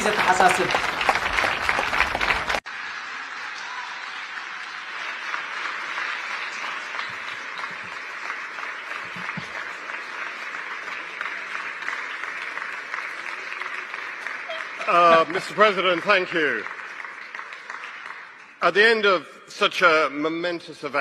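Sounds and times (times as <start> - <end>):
audience applauding: 0.0 - 19.2.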